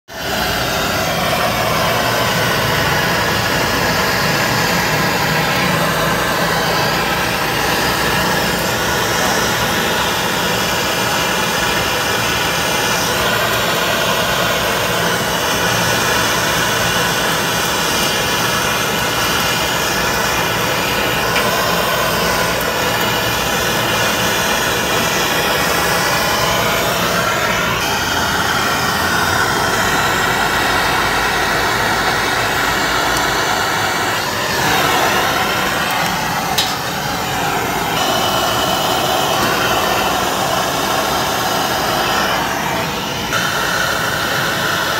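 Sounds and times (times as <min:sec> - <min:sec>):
gas torch flame rushing: 0:00.1 - 0:44.9.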